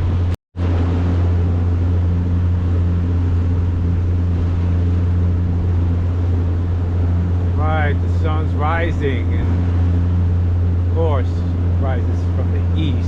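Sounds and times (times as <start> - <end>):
motorboat engine humming: 0.0 - 13.0
wind and water rushing: 0.0 - 13.0.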